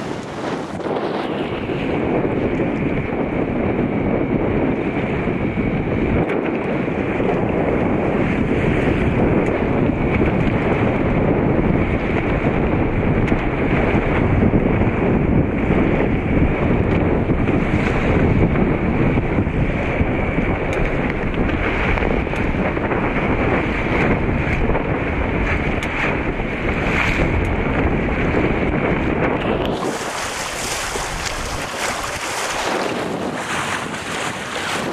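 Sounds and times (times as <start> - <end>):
choppy water against hull: 0.0 - 34.9
wind buffeting microphone: 0.0 - 34.9.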